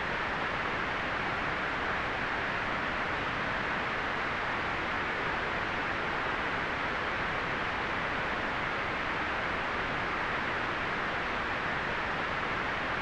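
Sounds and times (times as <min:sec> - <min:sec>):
white noise hiss: 0:00.0 - 0:13.0.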